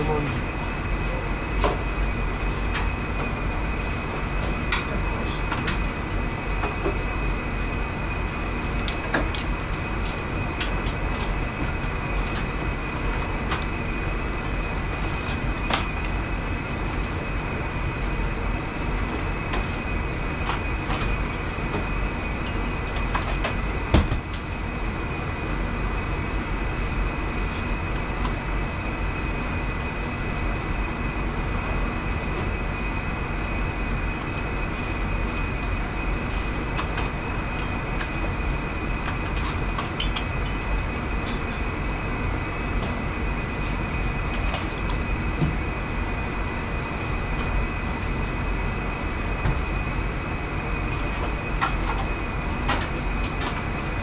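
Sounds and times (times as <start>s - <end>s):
kitchen machinery hum with whine: 0.0s - 54.0s.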